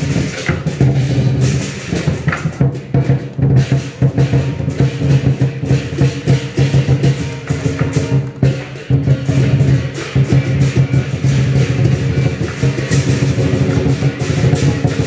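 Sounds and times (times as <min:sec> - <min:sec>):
music with steady beat: 0:00.0 - 0:15.0.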